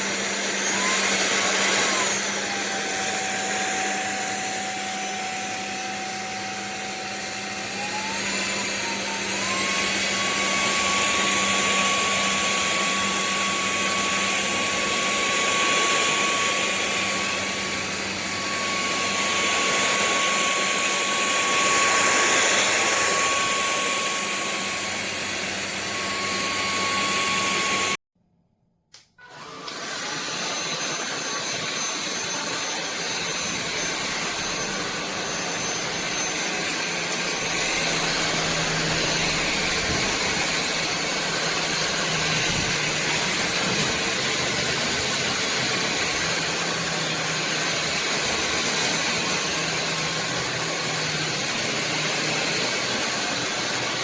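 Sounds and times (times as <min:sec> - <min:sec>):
stick vacuum motor whine: 0:00.0 - 0:28.0, 0:28.9 - 0:54.0.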